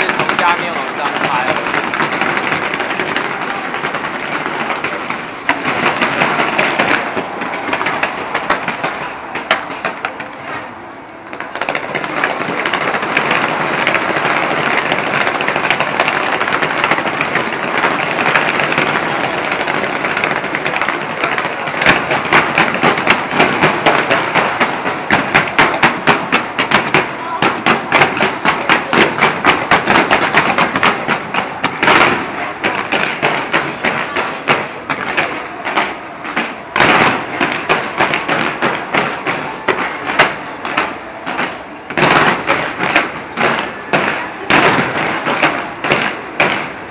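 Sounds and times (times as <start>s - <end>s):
fireworks crackling and popping: 0.0s - 46.9s
fireworks sharp bangs: 0.0s - 46.9s.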